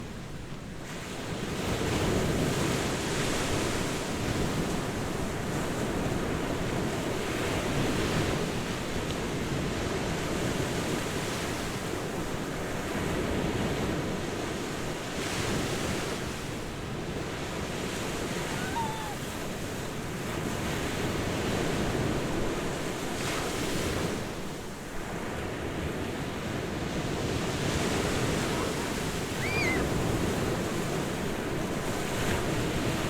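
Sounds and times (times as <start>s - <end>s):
ocean surf breaking on beach: 0.8s - 33.0s.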